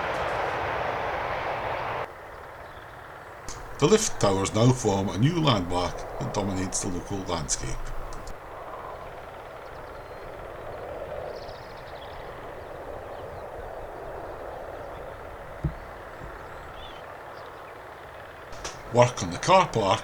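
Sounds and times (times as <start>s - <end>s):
outdoor background rush: 0.0s - 20.0s.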